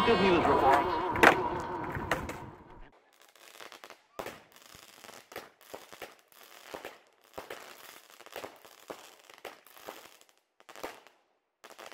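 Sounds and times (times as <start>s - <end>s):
fireworks bangs: 0.4s - 11.9s
fireworks crackling: 2.2s - 11.9s.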